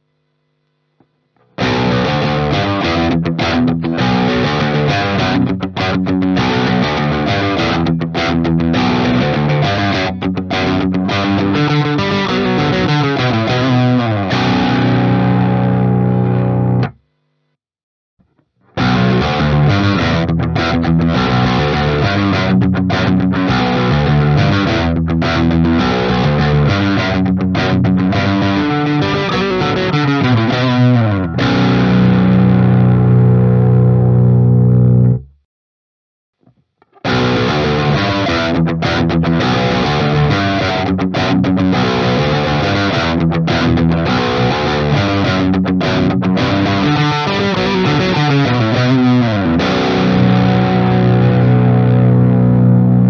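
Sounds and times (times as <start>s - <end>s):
distorted electric guitar riff: 1.3s - 17.6s, 18.6s - 35.4s, 36.8s - 53.0s.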